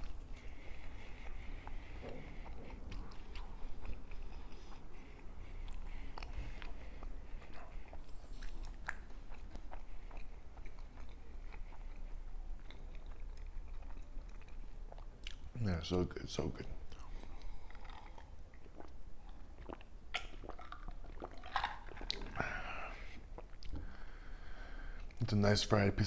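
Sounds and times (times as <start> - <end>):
wet mouth clicks and smacks: 0.0 - 15.6, 17.0 - 22.5
chewing and biting food: 0.0 - 15.7, 16.8 - 25.2.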